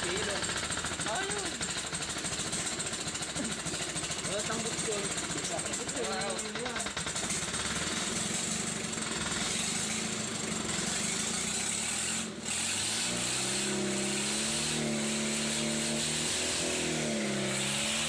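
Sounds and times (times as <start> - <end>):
diesel engine clattering: 0.0 - 18.0.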